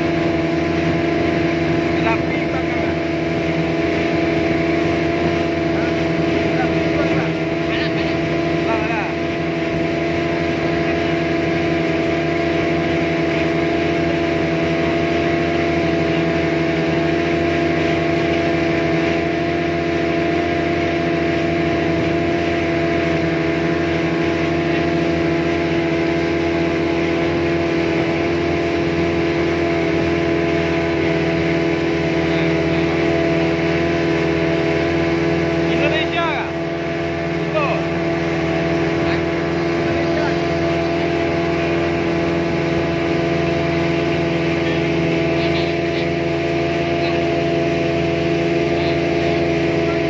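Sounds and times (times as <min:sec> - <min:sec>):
motorboat engine running: 0:00.0 - 0:50.0
rushing water noise: 0:00.0 - 0:50.0.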